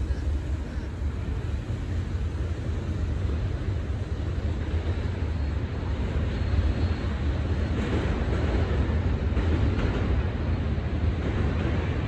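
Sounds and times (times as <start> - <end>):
distant freight train rumbling: 0.0 - 12.0.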